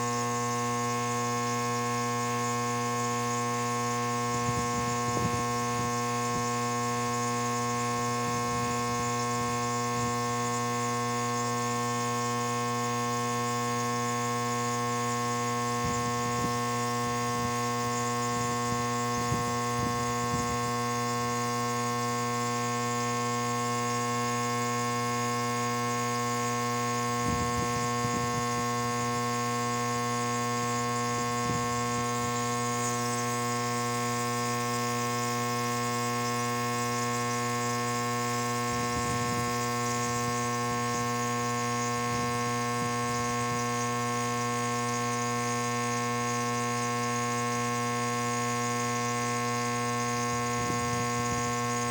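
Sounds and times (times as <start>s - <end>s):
nebulizer electric hum: 0.0s - 51.9s.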